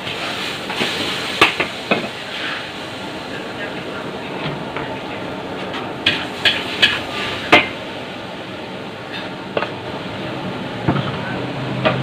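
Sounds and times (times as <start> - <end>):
rice sizzling in a wok: 0.0 - 12.0.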